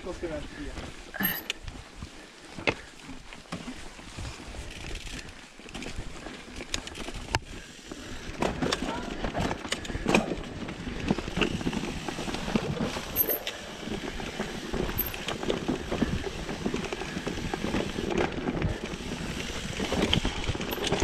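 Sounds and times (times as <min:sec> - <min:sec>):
bike rattling: 0:00.0 - 0:21.0
tyre noise on rough trail: 0:00.0 - 0:21.0.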